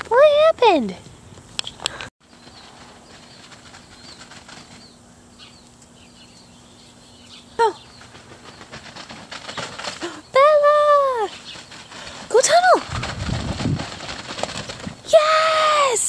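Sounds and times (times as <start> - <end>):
outdoor rustling with light ticks: 0.0 - 16.0.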